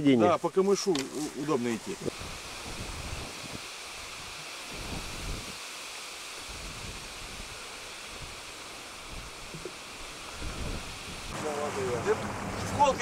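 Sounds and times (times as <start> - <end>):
outdoor hiss: 0.0 - 13.0
wind buffeting microphone: 1.5 - 5.6, 6.4 - 13.0.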